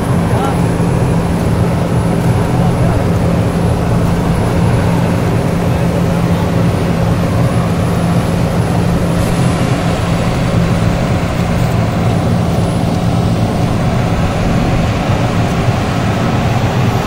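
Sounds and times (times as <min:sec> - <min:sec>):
diesel engine low drone: 0:00.0 - 0:17.0.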